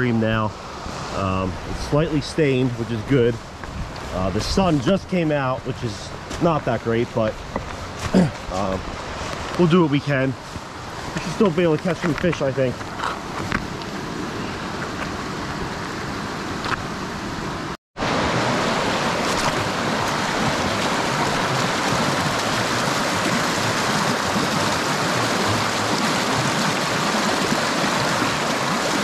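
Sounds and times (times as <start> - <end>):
stream rushing over stones: 0.2 - 16.9, 18.0 - 29.0.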